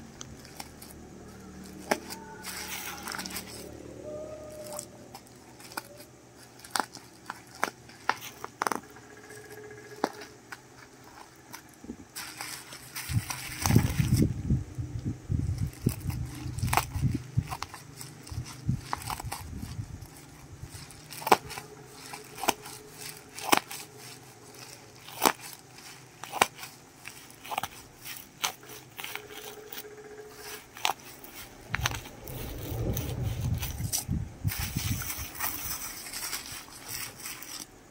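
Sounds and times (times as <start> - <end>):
plastic mailer crinkling: 0.0 - 3.8, 4.4 - 14.3, 15.5 - 37.9.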